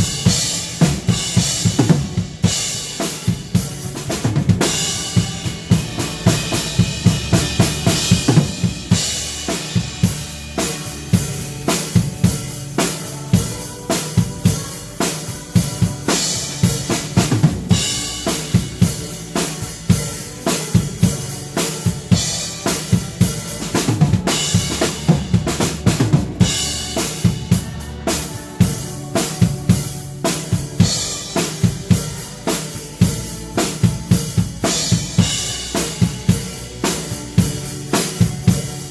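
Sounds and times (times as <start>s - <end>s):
bass drum and snare beat: 0.0s - 38.9s.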